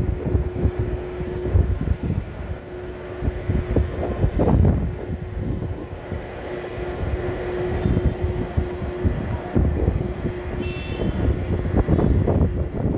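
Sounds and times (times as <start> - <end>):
jet engines idling: 0.0 - 12.9
wind buffeting microphone: 0.0 - 12.9.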